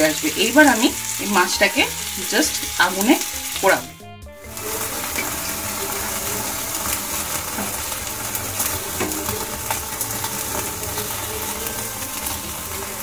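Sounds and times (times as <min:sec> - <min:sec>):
fish sizzling over flame: 0:00.0 - 0:13.0
sharp crackles of marinade: 0:00.0 - 0:13.0.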